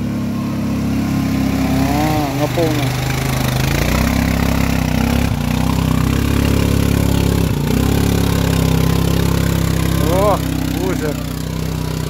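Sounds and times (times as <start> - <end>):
quad engine revving hard: 0.0 - 12.0.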